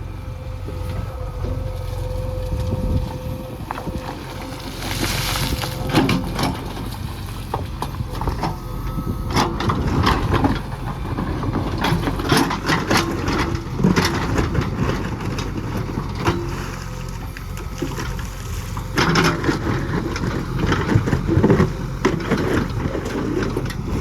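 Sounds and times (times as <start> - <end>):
diesel engine under load: 0.0 - 24.0.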